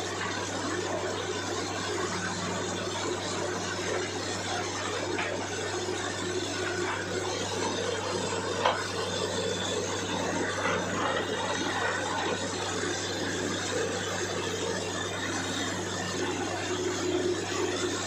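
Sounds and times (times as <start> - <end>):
drilling rig engine drone: 0.0 - 18.0.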